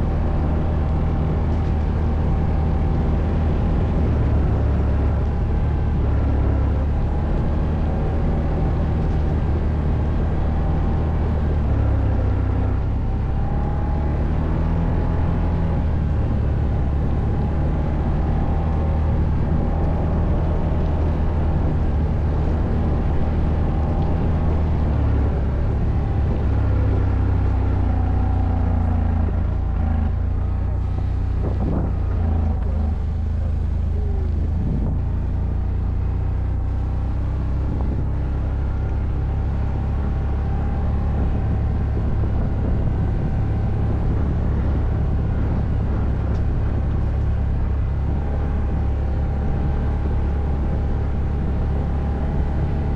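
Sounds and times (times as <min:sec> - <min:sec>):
atv engine running: 0:00.0 - 0:52.9.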